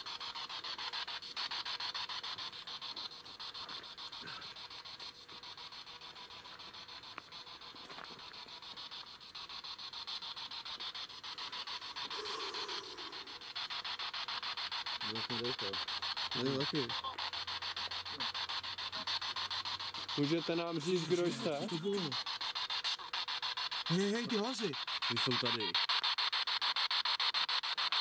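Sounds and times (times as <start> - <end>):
radio static sweeping stations: 0.0 - 28.0.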